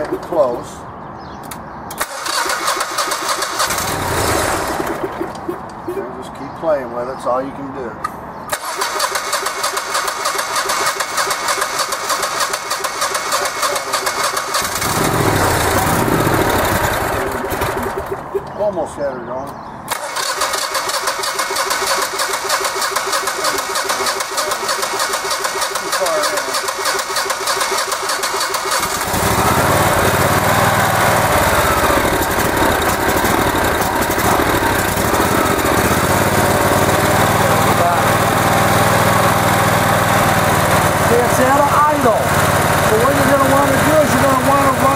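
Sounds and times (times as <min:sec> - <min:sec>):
electric starter cranking engine: 0:01.9 - 0:05.4, 0:08.5 - 0:18.2, 0:19.9 - 0:44.9.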